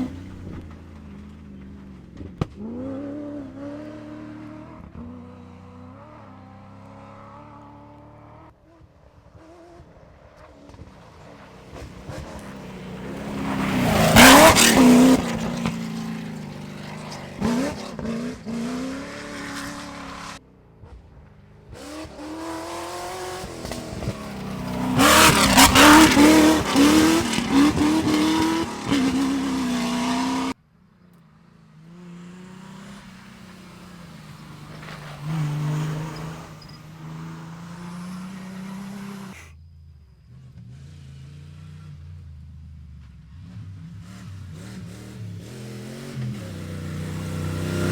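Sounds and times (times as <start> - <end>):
rally cars revving past: 0.0 - 30.6, 31.4 - 39.5, 43.1 - 47.9.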